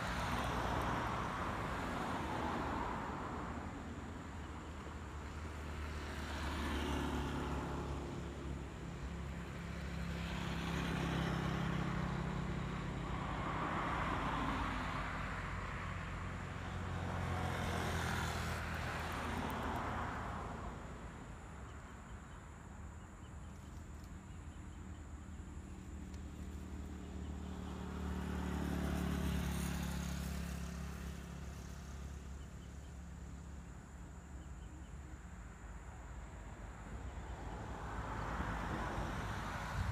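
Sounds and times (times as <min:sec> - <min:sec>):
motor vehicles passing: 0:00.0 - 0:39.9.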